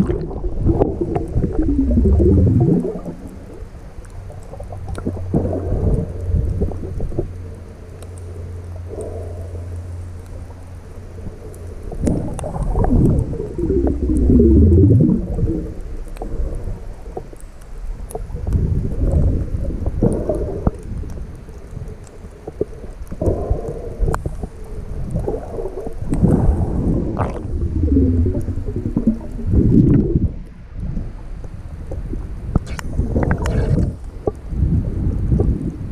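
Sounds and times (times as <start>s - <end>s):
underwater bubbles gurgling: 0.0s - 35.9s.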